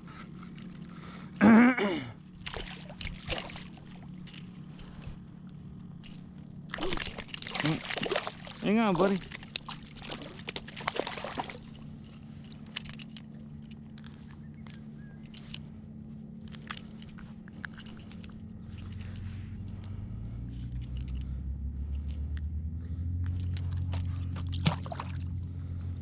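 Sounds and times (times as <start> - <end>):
motorboat engine droning: 0.0 - 26.0.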